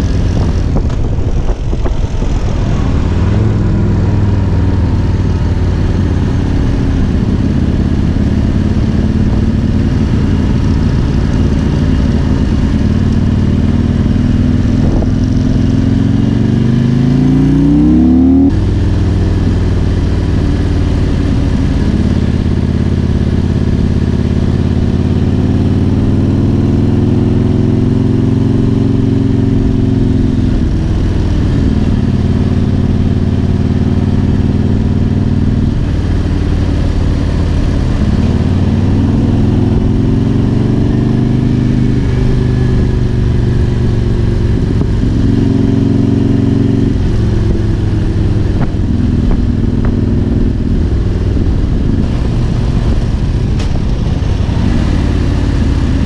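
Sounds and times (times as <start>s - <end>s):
wind noise: 0.0s - 25.0s, 25.6s - 56.0s
motorcycle engine revving: 0.0s - 56.0s.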